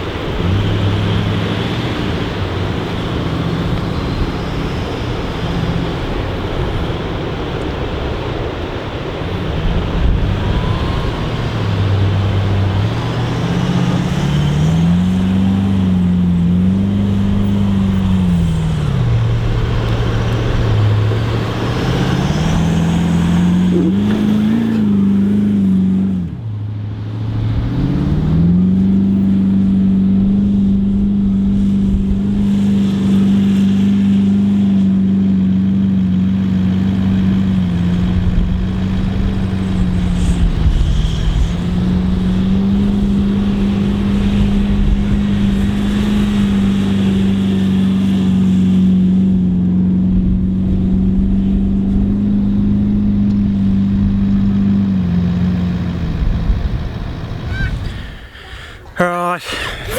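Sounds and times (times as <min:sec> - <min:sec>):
engine revving on sand: 0:00.0 - 0:58.6.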